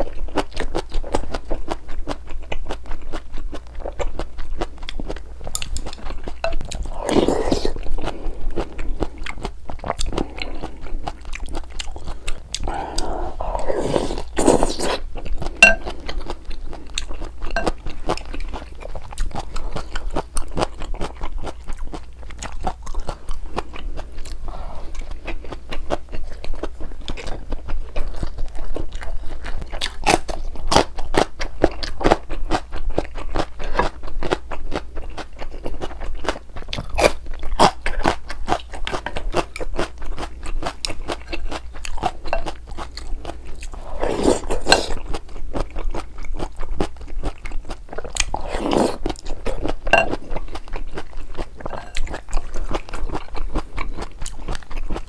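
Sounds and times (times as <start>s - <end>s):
chewing and biting food: 0.0s - 55.0s.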